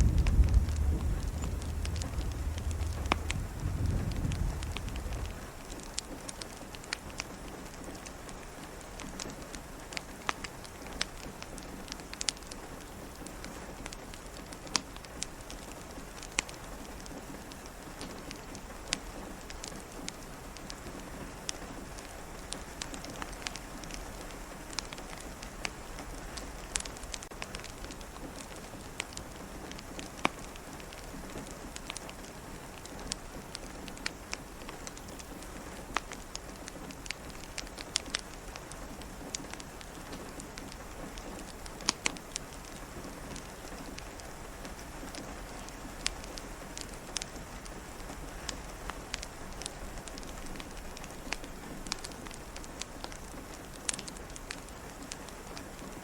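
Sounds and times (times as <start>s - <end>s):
fireplace crackling: 0.0s - 56.0s
rain pattering: 0.0s - 56.0s.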